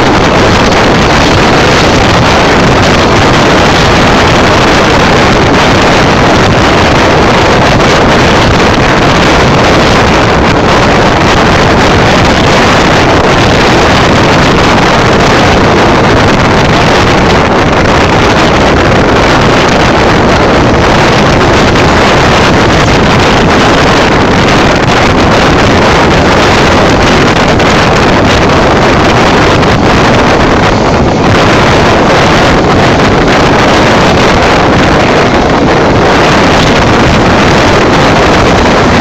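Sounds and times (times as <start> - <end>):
moving train running noise: 0.0 - 39.0
wind on microphone: 0.0 - 39.0.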